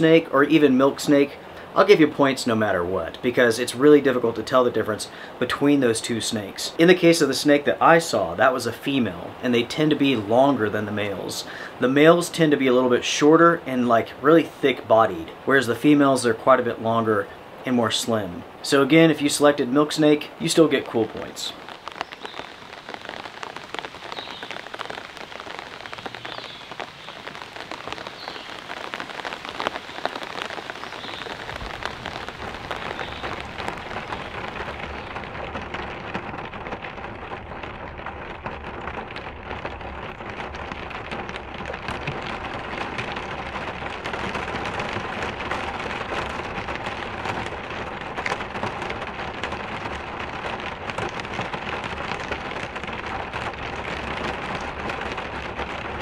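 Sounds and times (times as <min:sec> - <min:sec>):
rain pattering on hard surfaces: 0:00.0 - 0:56.0.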